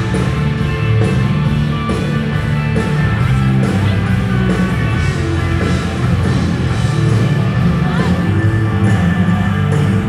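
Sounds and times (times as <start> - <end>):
electric guitars: 0.0 - 10.0
live rock band playing: 0.0 - 10.0.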